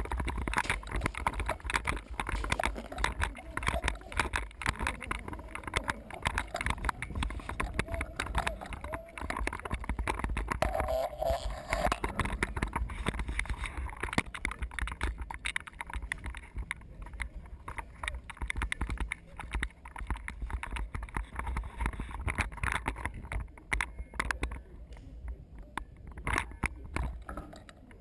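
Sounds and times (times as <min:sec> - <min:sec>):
sharp irregular clicks and knocks: 0:00.0 - 0:28.0.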